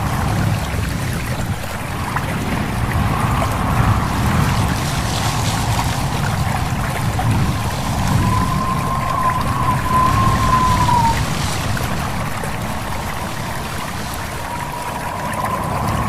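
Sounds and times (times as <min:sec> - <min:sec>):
stream babbling: 0:00.0 - 0:16.0.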